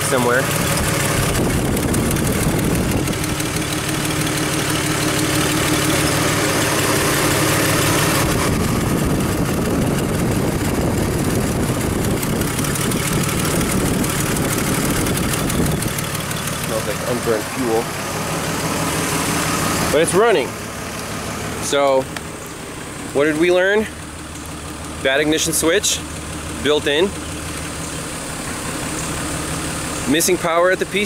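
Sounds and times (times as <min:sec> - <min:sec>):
misfiring engine idling: 0:00.0 - 0:31.0.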